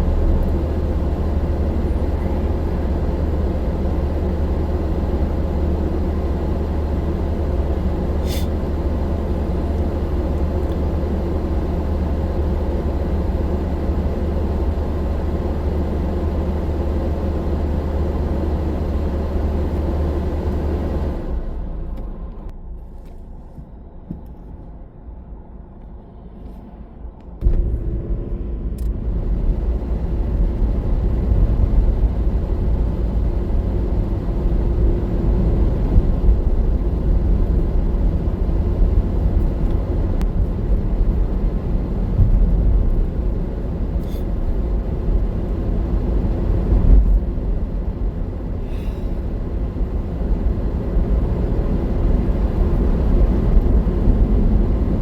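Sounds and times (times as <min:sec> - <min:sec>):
wind and road noise rumble: 0:00.0 - 0:55.0.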